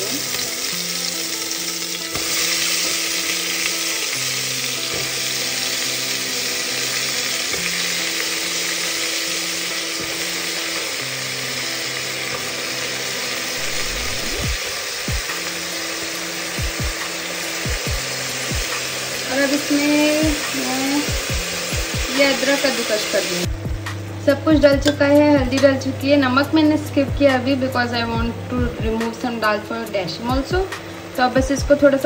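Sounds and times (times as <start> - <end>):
ghee sizzling: 0.0 - 28.1
soft background music: 0.0 - 32.0.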